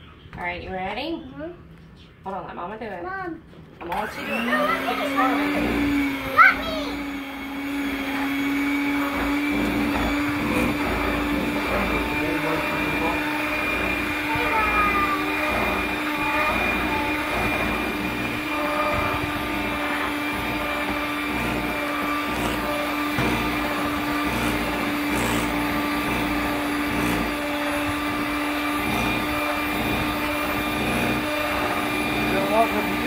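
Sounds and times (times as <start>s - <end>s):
electric hand mixer whirring: 3.8s - 33.0s.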